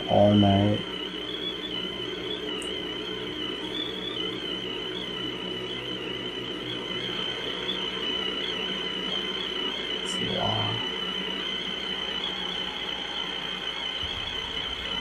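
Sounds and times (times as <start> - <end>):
faint low hum: 0.0 - 15.0
high thin whine: 0.0 - 15.0
static hiss: 0.0 - 15.0.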